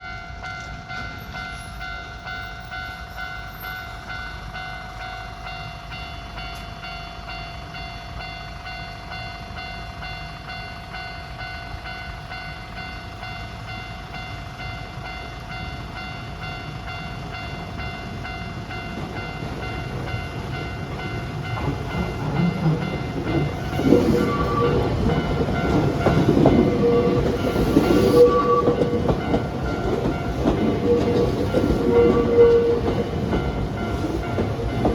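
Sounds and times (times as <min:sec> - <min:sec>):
level crossing alarm ringing: 0:00.0 - 0:34.9
train rumbling: 0:00.0 - 0:34.9.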